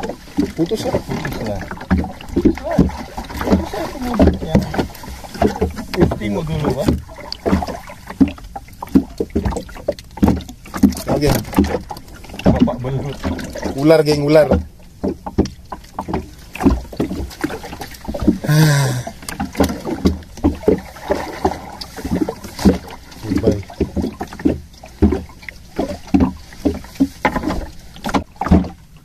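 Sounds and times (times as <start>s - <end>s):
knocks and clatter on boat: 0.0s - 29.0s.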